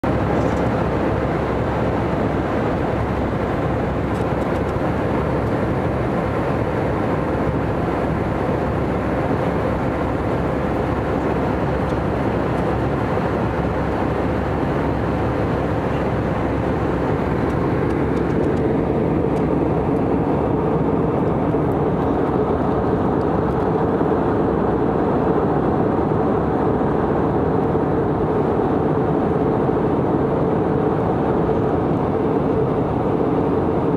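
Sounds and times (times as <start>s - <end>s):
airliner cabin engine noise: 0.0s - 33.9s.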